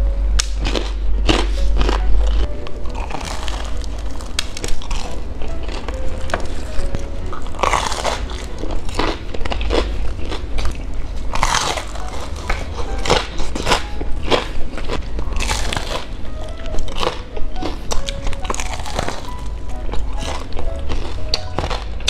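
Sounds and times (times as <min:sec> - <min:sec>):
crunchy fried food chewing: 0:00.4 - 0:22.0.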